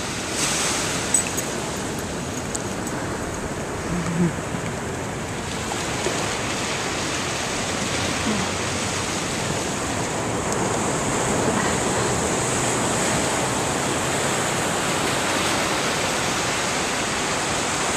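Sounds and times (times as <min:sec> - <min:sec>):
ocean surf breaking on beach: 0:00.0 - 0:17.9.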